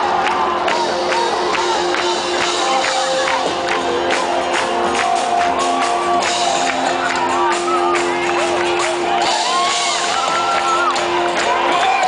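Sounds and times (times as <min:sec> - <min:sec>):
upbeat music: 0:00.0 - 0:12.0.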